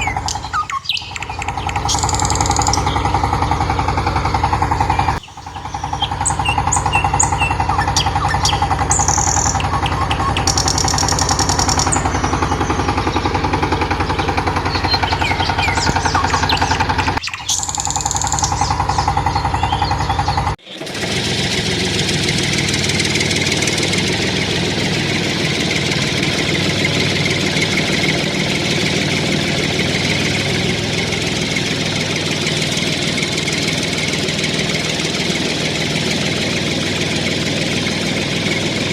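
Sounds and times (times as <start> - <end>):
model tractor motor chugging: 0.0 - 38.9.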